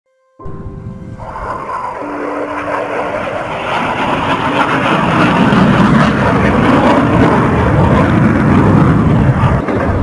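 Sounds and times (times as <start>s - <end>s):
fighter jet flying overhead: 0.4s - 10.0s.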